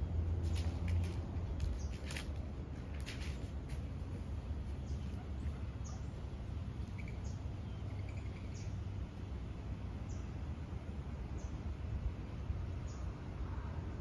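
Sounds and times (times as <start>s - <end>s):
steady low rumble: 0.0s - 14.0s
small birds chirping: 0.5s - 2.4s, 3.0s - 13.5s.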